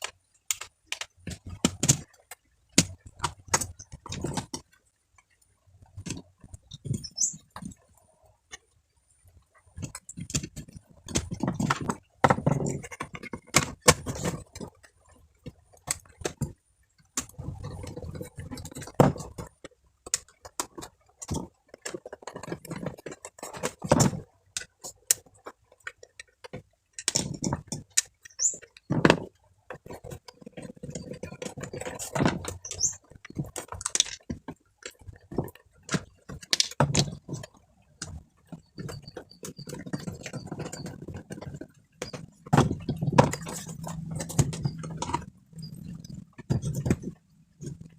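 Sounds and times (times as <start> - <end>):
small objects clicking and knocking: 0.0 - 8.6, 9.3 - 47.9.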